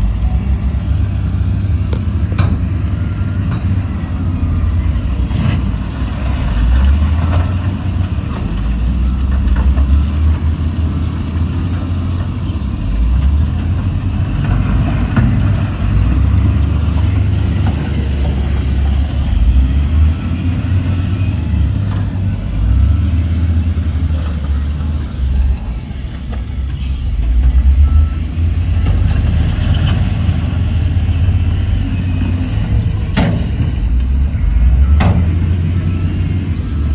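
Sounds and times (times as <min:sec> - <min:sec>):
diesel construction machinery rumbling: 0:00.0 - 0:36.9.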